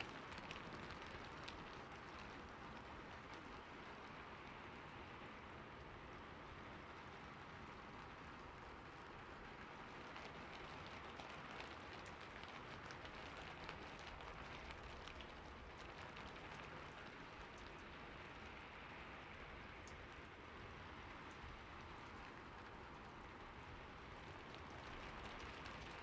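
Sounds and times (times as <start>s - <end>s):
rain falling on a roof: 0.0s - 26.0s.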